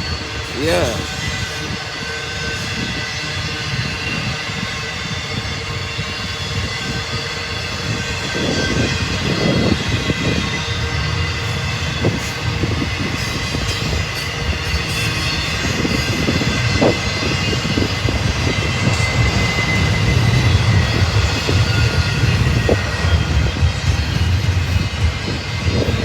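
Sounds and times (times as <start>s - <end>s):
train clicks and clatter: 0.0s - 26.0s
train wheels rumbling on rail: 0.0s - 26.0s.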